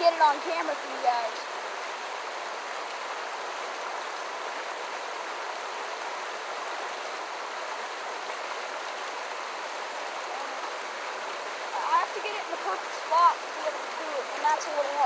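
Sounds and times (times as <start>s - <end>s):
creek water over rocks: 0.0s - 15.0s.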